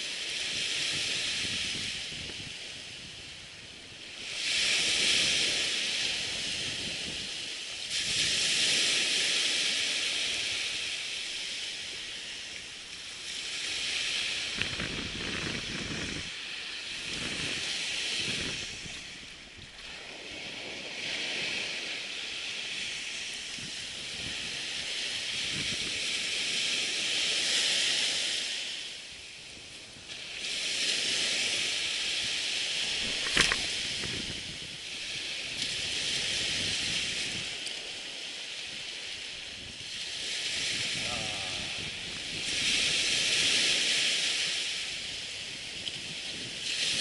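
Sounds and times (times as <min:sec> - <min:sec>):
surf washing onto beach: 0:00.0 - 0:47.0
wind: 0:00.0 - 0:47.0.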